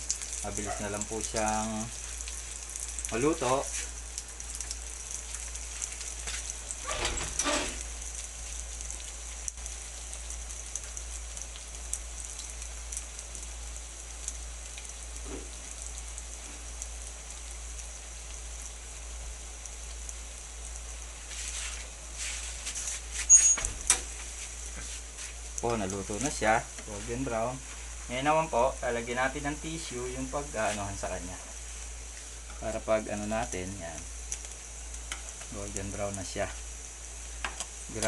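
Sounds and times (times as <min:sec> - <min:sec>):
deep-frying sizzle and crackles: 0:00.0 - 0:38.0.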